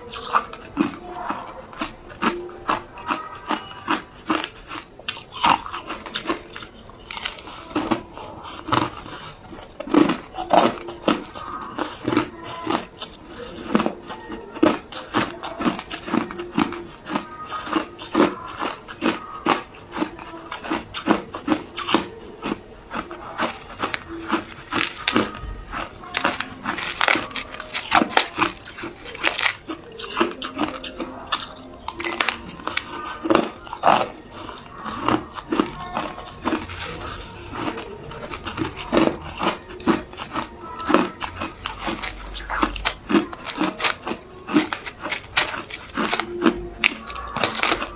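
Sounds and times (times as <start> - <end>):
ice cubes crunching: 0.0 - 47.9.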